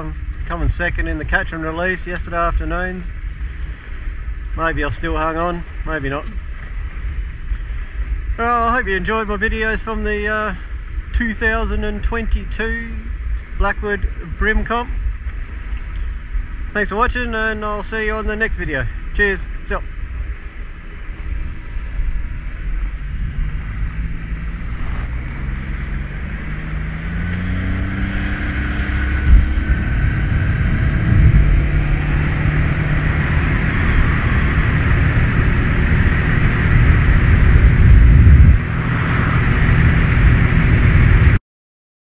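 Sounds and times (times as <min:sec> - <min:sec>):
outboard motor speeding up: 0:00.0 - 0:41.4
wind rushing over microphone: 0:00.0 - 0:41.4.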